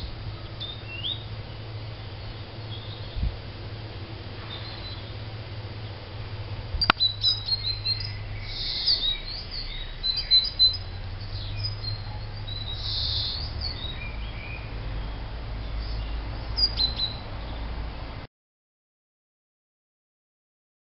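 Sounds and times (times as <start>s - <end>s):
birds chirping and twittering: 0.0s - 18.2s
low steady hum: 0.0s - 18.2s.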